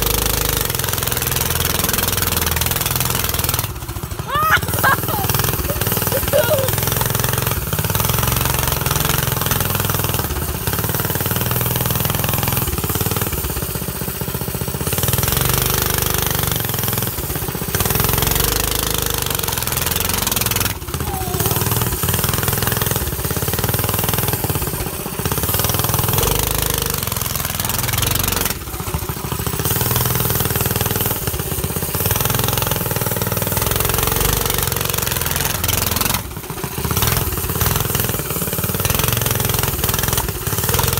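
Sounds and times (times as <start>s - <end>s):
go-kart engine revving: 0.0s - 40.9s.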